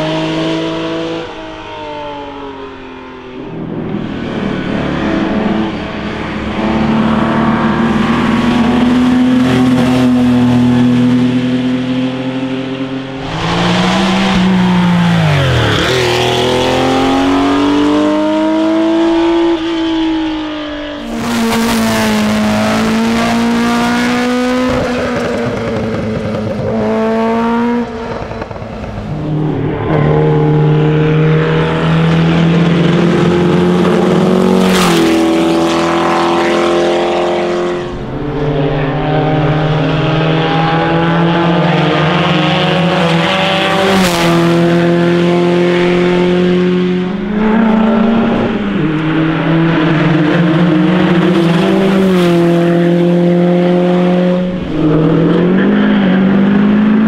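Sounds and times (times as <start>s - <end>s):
car engines at full throttle: 0.0s - 57.0s.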